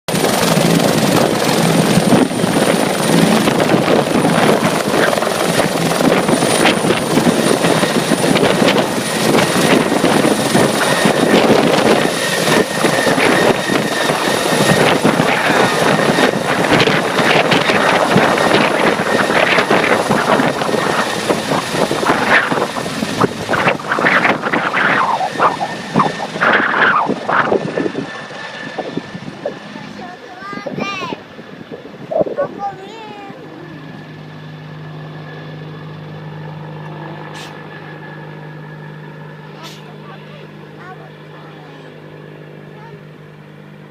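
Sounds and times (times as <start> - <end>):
helicopter rotor chop: 0.1 - 43.9
high turbine whine: 0.1 - 43.9.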